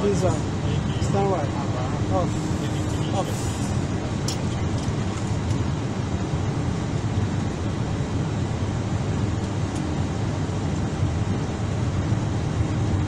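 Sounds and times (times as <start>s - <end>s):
aircraft engines idling: 0.0s - 13.0s.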